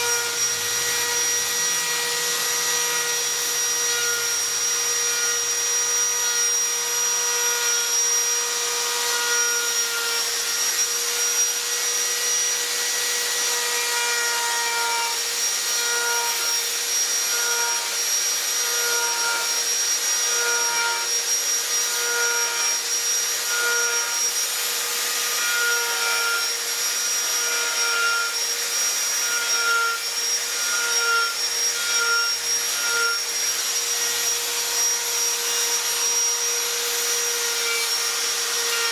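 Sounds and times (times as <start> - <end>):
die grinder whining on wood: 0.0 - 38.9.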